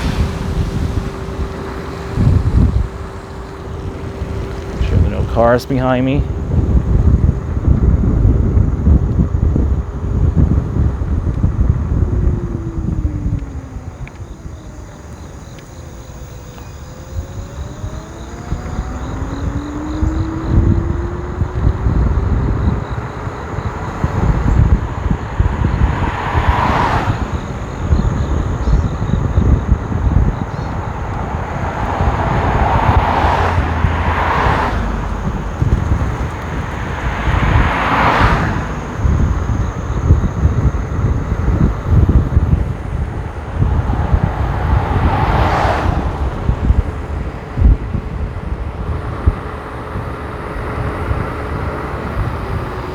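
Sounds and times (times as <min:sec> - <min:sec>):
electric scooter motor whining: 0:00.0 - 0:52.9
road rumble: 0:00.0 - 0:52.9
wind: 0:00.0 - 0:52.9.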